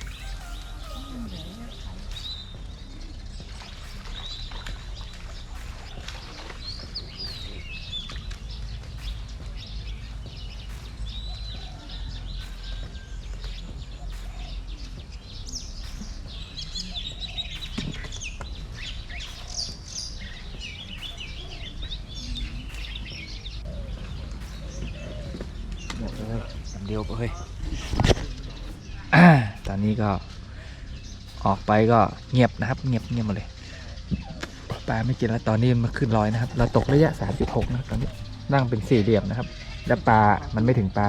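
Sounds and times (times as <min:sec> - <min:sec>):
small birds chirping: 0:00.0 - 0:41.0
steady low rumble: 0:00.0 - 0:41.0.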